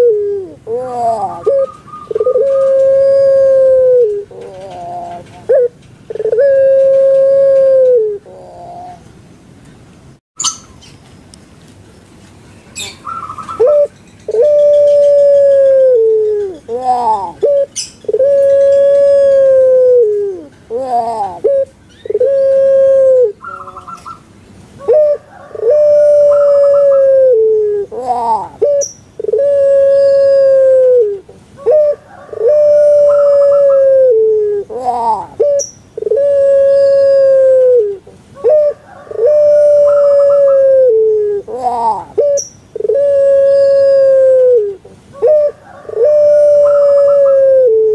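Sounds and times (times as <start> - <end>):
dove cooing: 0.0 - 9.1, 12.8 - 24.2, 24.8 - 47.9.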